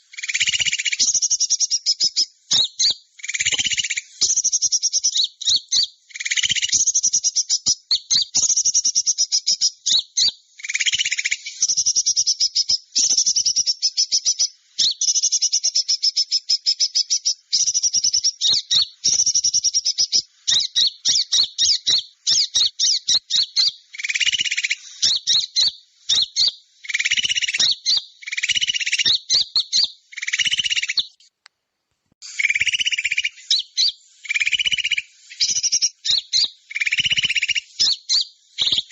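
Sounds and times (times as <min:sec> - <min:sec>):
small birds chittering trills: 0:00.0 - 0:31.3, 0:32.2 - 0:38.9.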